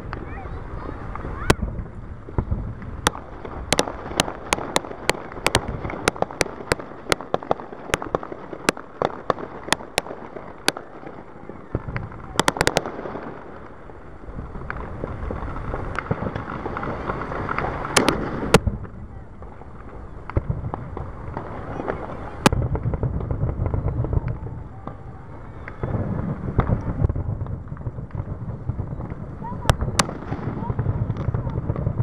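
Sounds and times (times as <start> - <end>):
fireworks bangs and cracks: 0.0 - 32.0
fireworks hissing rush: 0.0 - 32.0.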